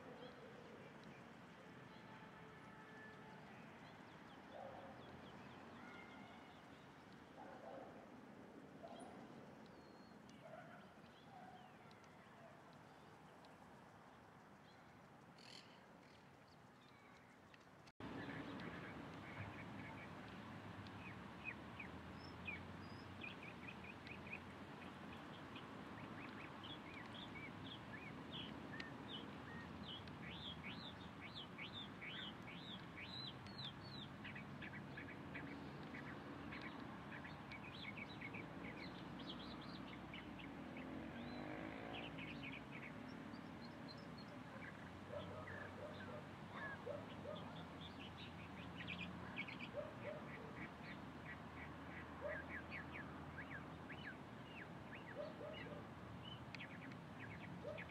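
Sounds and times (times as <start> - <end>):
birds chirping: 8.8 - 57.9.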